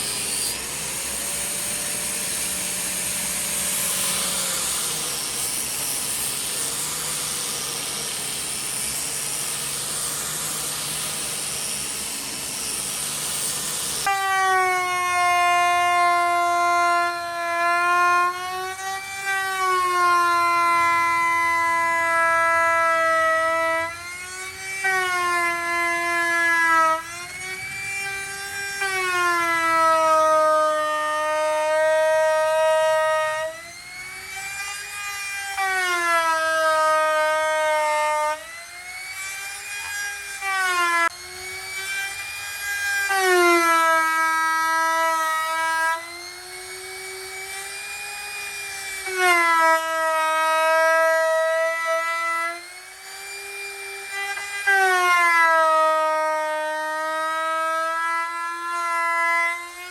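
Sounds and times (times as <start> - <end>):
power tool motor whining: 0.0 - 59.9.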